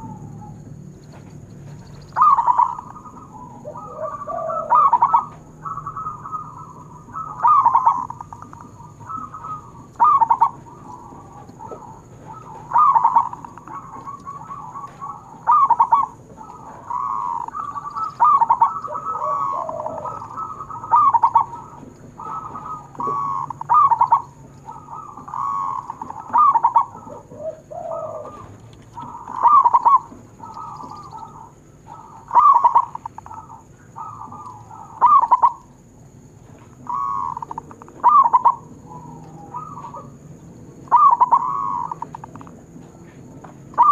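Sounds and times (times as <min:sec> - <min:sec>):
doves cooing: 0:00.0 - 0:43.9
lower bird call: 0:00.0 - 0:43.9.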